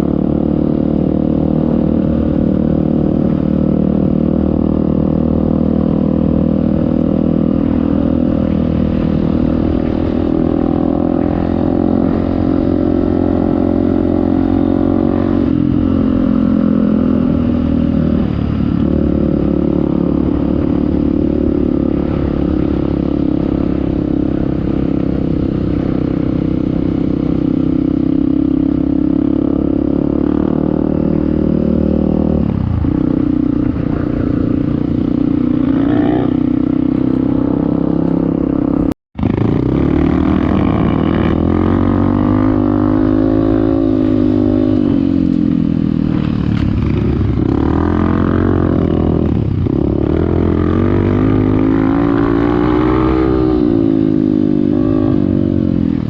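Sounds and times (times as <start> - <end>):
off-road motorcycle engine: 0.0 - 56.0.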